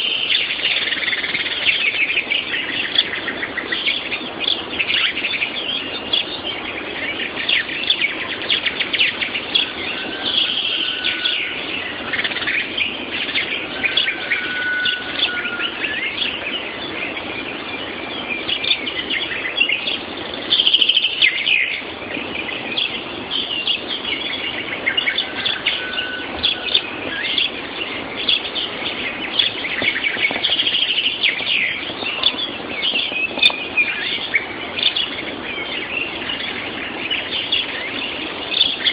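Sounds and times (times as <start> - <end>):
songbirds chirping and trilling: 0.0 - 38.9
whistled bird notes: 0.0 - 38.9.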